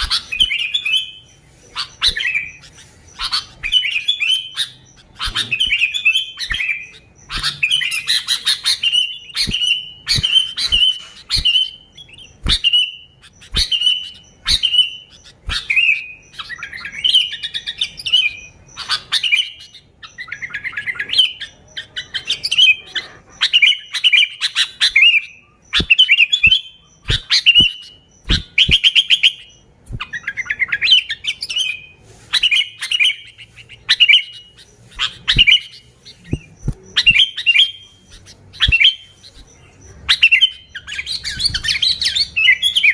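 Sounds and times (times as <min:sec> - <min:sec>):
bulbul singing whistled phrases: 0:00.0 - 0:42.9.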